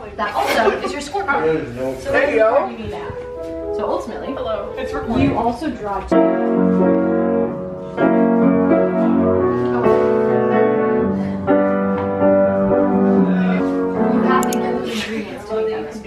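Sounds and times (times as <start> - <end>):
piano chords: 2.2 - 16.0.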